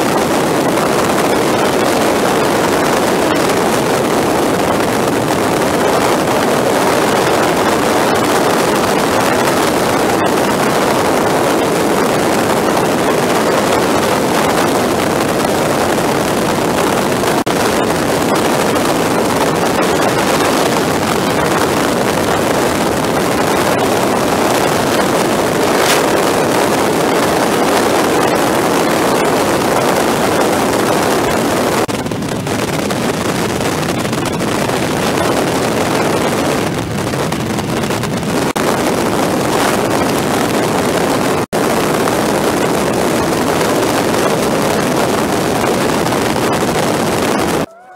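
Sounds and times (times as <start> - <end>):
motorcycle engine and road noise: 0.0 - 47.7
wind noise on microphone: 0.0 - 47.9.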